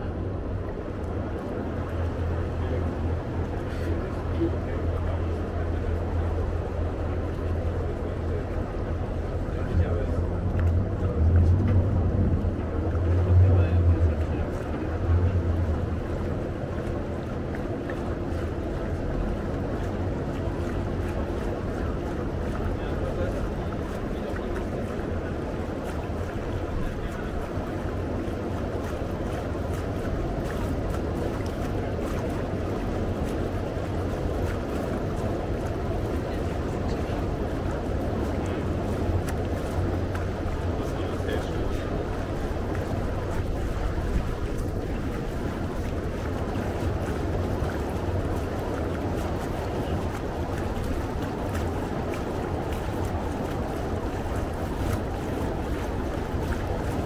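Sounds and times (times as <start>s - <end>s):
boat engine droning: 0.0s - 57.0s
water wash noise: 0.0s - 57.0s.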